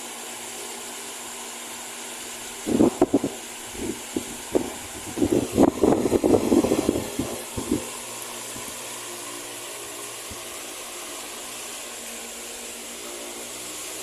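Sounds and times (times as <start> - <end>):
wall fan running: 0.0 - 14.0.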